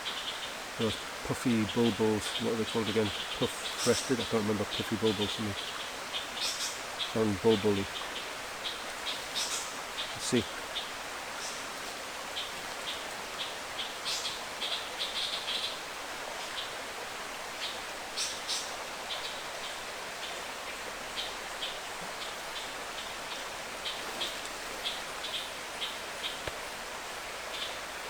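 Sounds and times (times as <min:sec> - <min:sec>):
birds chattering: 0:00.0 - 0:15.8, 0:17.6 - 0:28.0
steady hiss: 0:00.0 - 0:28.0.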